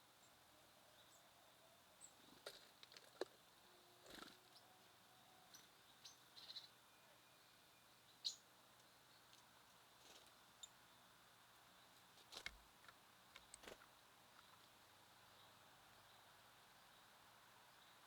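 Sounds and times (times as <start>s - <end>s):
low background hiss: 0.0s - 18.0s
songbirds chirping: 0.0s - 18.0s.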